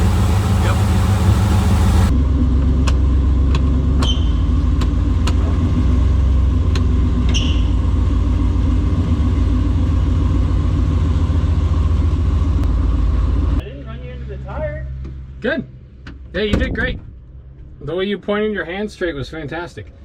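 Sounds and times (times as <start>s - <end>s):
engine rumbling steadily: 0.0s - 17.9s.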